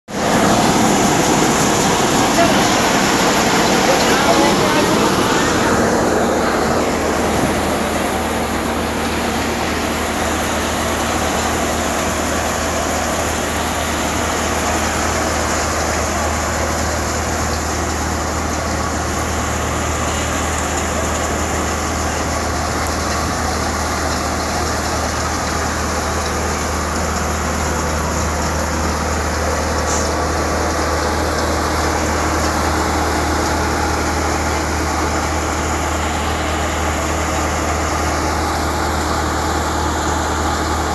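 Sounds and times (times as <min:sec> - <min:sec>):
tractor engine: 0:00.0 - 0:40.9
thresher machine drone: 0:00.1 - 0:40.9.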